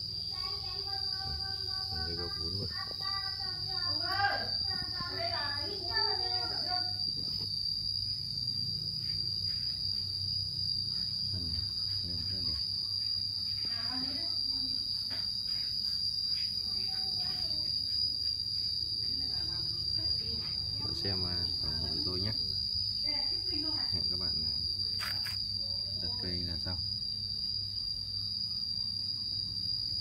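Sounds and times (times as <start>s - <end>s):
insects singing: 0.0s - 30.0s.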